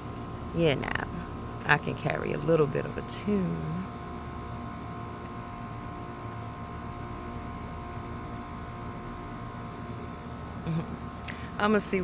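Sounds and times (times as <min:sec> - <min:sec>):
mechanical hum with pitched tones: 0:00.0 - 0:12.0.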